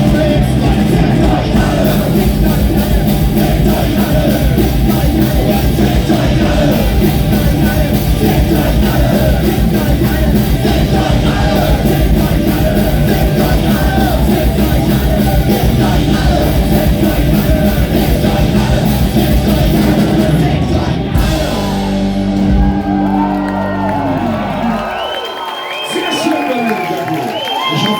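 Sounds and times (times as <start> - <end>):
punk rock band playing: 0.0 - 25.0
shouted vocals: 0.0 - 27.9.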